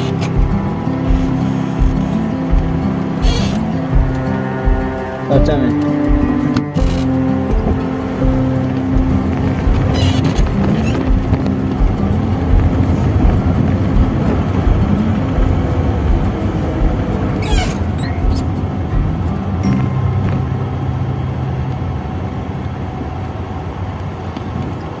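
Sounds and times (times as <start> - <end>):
faint held musical tones: 0.0 - 24.8
car driving rumble: 0.0 - 25.0.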